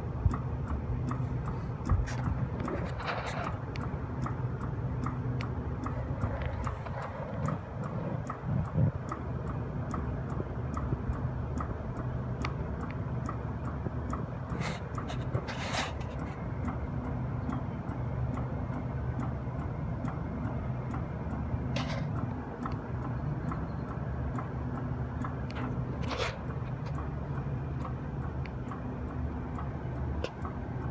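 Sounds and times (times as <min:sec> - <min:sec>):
evenly spaced ticking: 0:00.1 - 0:15.5, 0:16.2 - 0:30.9.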